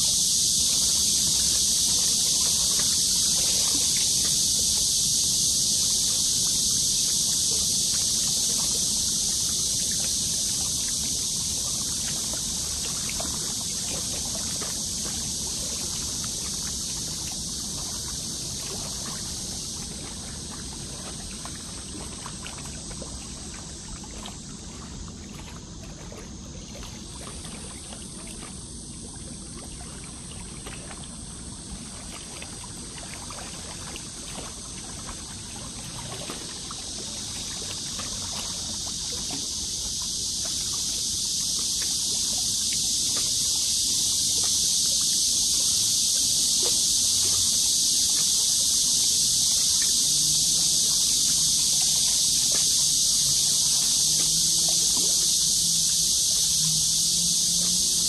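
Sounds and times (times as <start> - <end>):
steady high hiss: 0.0 - 25.8, 27.0 - 58.0.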